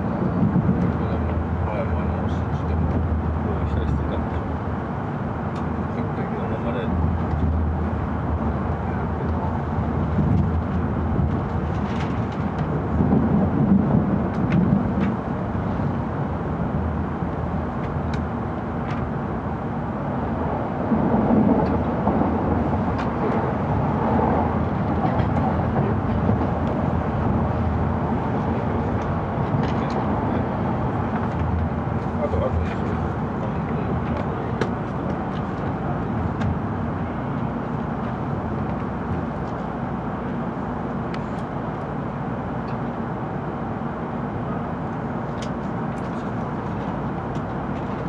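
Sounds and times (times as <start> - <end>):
train cabin rumble: 0.0 - 48.0.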